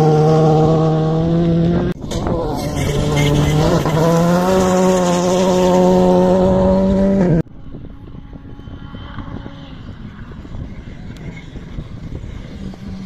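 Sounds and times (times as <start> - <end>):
distant rally car engine: 0.0 - 13.0
rally car engine at high revs: 0.0 - 13.0.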